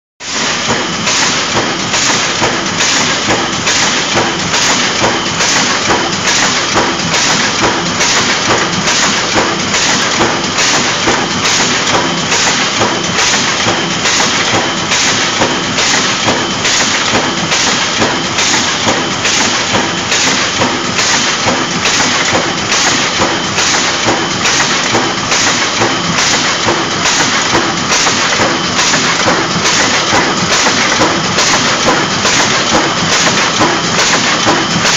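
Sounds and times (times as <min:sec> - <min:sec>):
die-cutting machine clatter: 0:00.2 - 0:34.9
regular machine knock: 0:00.3 - 0:34.9.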